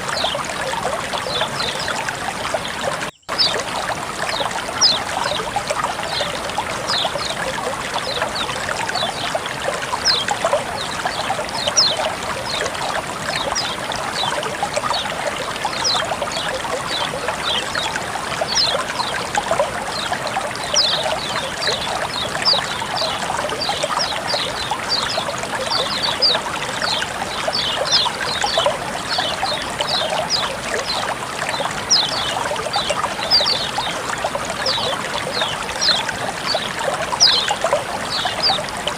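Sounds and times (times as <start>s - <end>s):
water dripping and splashing: 0.0s - 38.9s
water flowing and trickling: 0.0s - 38.9s.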